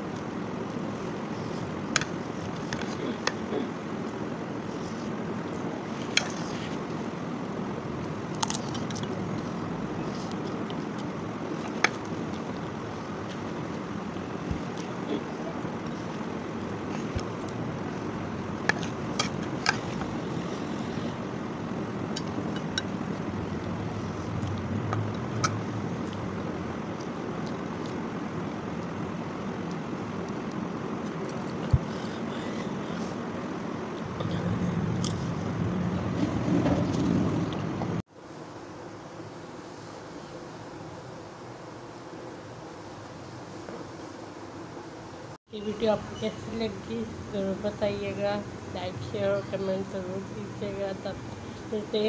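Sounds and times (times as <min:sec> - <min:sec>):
background hiss and rumble: 0:00.0 - 0:52.0
steady background noise: 0:00.0 - 0:52.0.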